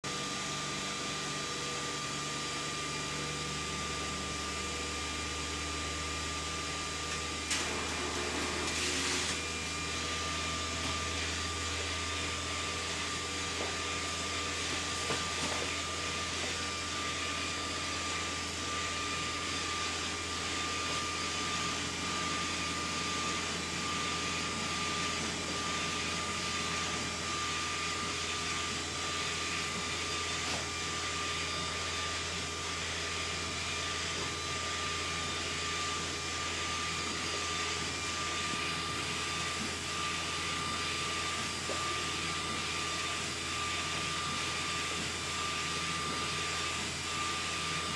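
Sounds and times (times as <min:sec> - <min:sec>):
printer machine hum and whine: 0:00.1 - 0:47.9.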